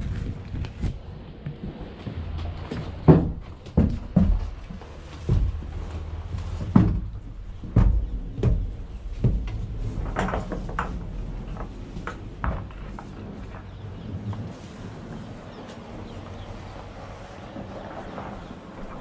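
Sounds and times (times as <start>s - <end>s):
horse hooves knocking in trailer: 1.3s - 19.0s.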